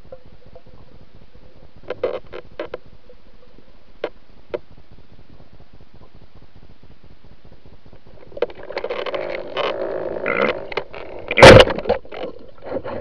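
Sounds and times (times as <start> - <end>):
underwater bubbling and rushing: 0.0 - 13.0.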